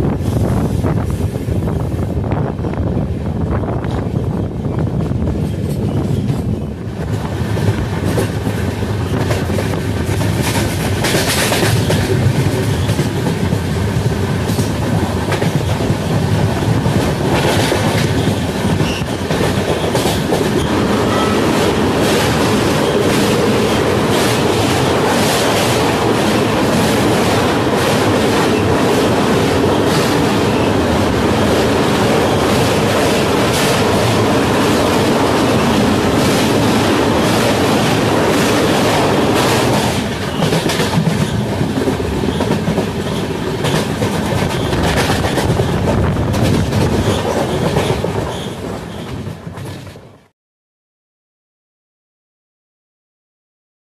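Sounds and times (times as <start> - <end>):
train wheels rumbling on rails: 0.0 - 50.3
clickety-clack over rail joints: 3.6 - 50.3.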